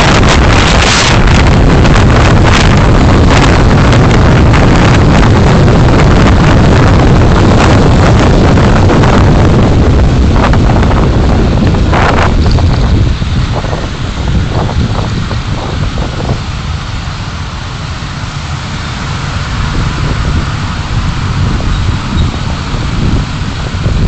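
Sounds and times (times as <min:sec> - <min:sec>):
car road and wind noise: 0:00.0 - 0:24.0.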